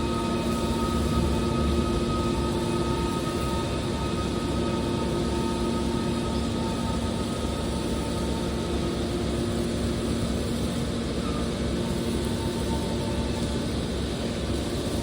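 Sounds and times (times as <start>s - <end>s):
can baler machine hum: 0.0s - 15.0s.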